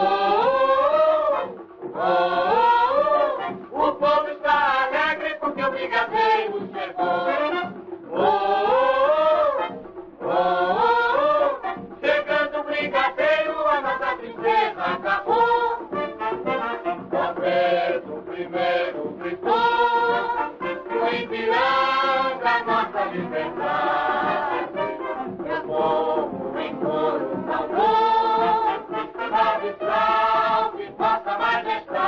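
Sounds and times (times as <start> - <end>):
choir singing a jingle: 0.0 - 32.0.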